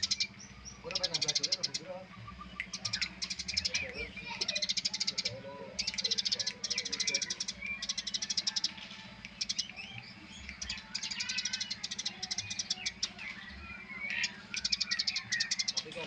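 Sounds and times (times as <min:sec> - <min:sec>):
sparrows chirping: 0:00.0 - 0:16.0
steady low hum: 0:00.0 - 0:16.0.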